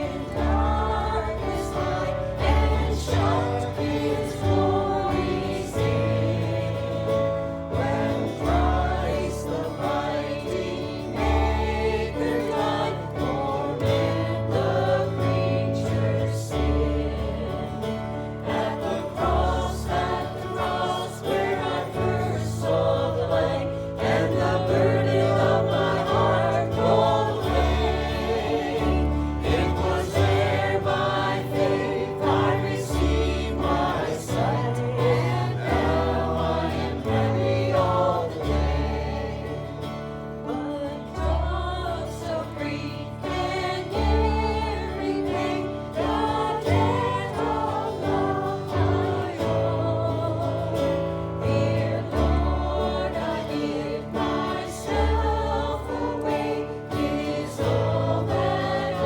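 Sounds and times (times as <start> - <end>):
group singing a gospel hymn: 0.0 - 59.0.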